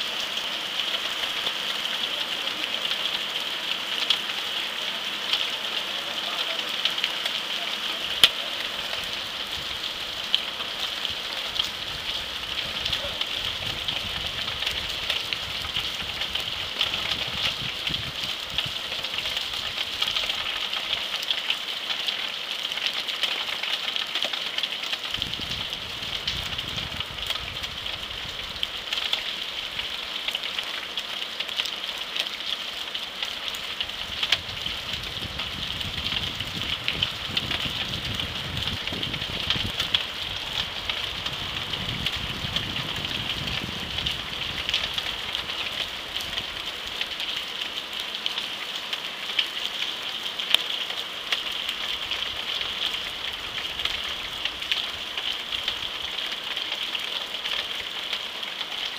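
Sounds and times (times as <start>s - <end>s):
torrential rain on corrugated roof: 0.0s - 58.9s.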